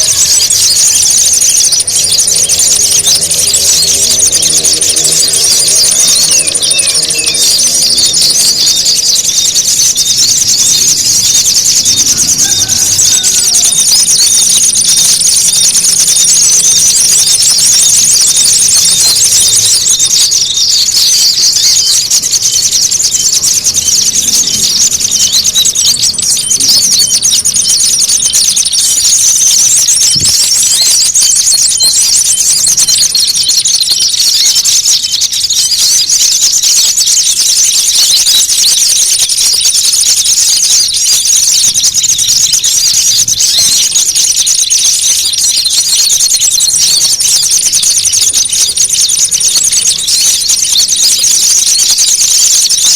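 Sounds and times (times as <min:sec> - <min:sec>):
shrill bird chirps and twitters: 0:00.0 - 0:52.9.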